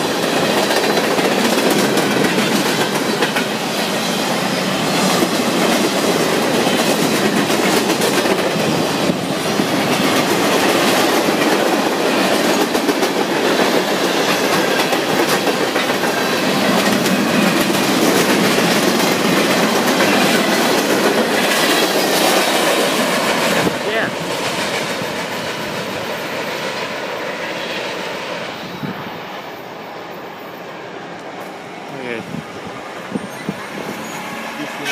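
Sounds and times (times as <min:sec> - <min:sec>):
freight train wheels on rails: 0:00.0 - 0:34.9.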